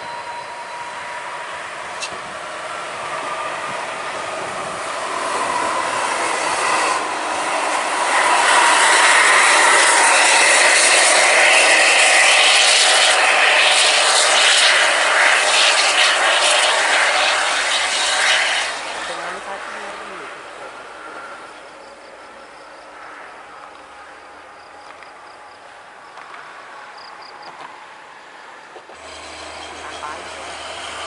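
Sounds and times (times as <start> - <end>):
bus driving past: 0.0 - 31.0.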